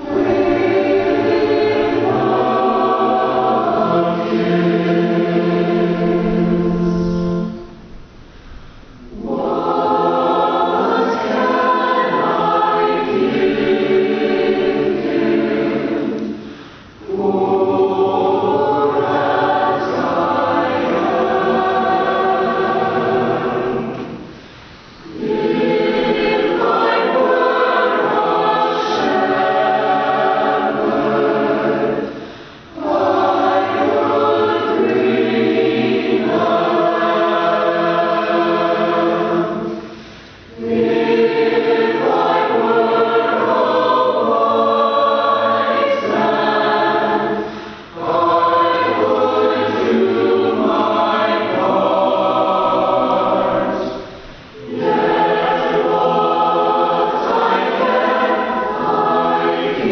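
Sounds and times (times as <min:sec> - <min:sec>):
mixed choir singing: 0:00.0 - 0:08.0, 0:09.0 - 0:59.9.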